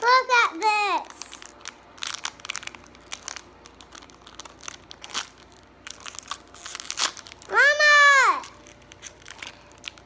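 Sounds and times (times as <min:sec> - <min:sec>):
plastic wrapper crinkling: 0:01.0 - 0:10.0.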